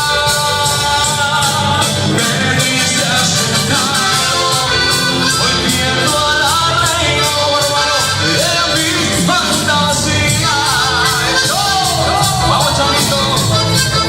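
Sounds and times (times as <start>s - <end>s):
band music: 0.0s - 14.0s
person singing: 0.0s - 14.0s.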